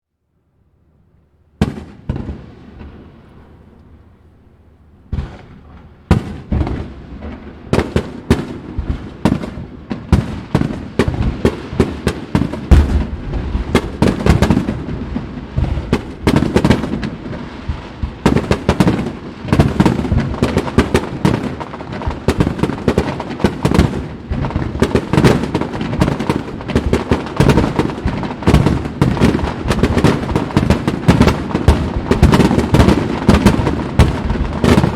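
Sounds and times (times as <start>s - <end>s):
fireworks booming and banging: 1.6s - 3.8s, 5.1s - 34.9s.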